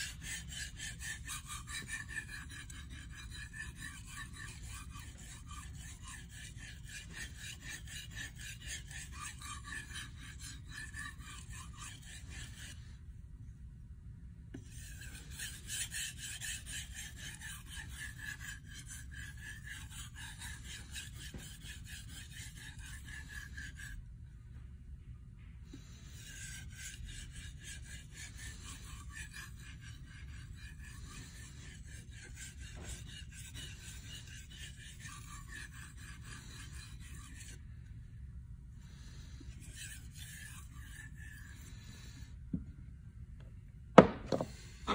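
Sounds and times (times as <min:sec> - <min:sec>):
knife scraping on whetstone: 0:00.0 - 0:12.9, 0:14.5 - 0:24.0, 0:25.8 - 0:37.6, 0:38.9 - 0:42.2, 0:44.2 - 0:44.9.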